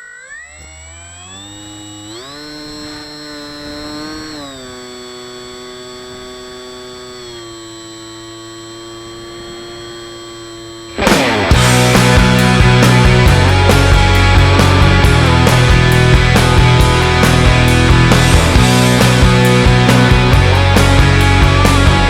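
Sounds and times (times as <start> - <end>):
model plane electric motor whining: 0.0 - 22.0.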